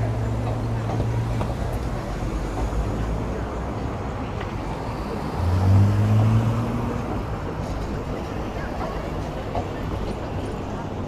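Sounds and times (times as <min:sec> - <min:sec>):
passing vehicle engine hum: 0:00.0 - 0:10.9
street traffic noise: 0:00.0 - 0:11.0.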